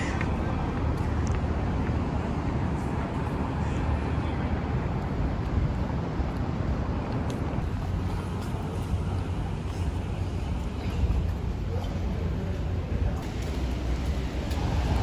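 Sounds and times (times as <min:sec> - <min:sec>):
distant traffic: 0:00.0 - 0:15.0
wind rumbling on microphone: 0:00.0 - 0:15.0.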